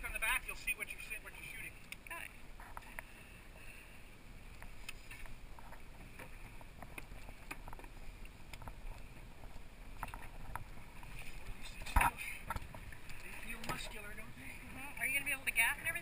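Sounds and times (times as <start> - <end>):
wind and sea water rumble: 0.0 - 16.0.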